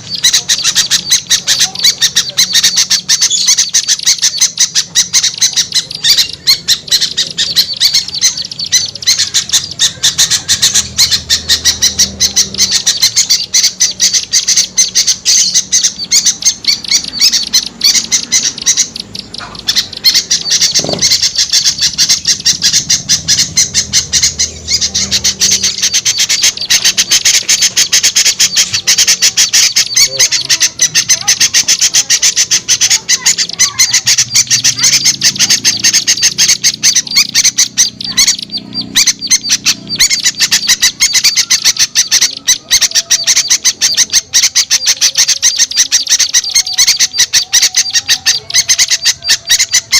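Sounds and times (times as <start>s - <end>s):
small birds chattering: 0.0s - 49.9s.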